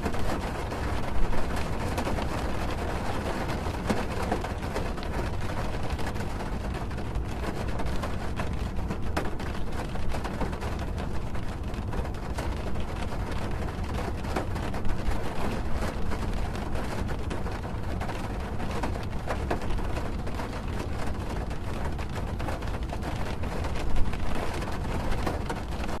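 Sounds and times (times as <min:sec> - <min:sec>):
rain on a car roof: 0:00.0 - 0:26.0.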